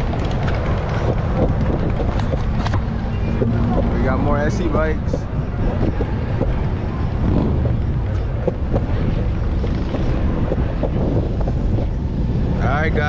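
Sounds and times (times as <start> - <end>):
longboard wheels rolling on pavement: 0.0 - 13.0
wind on microphone: 0.0 - 13.0.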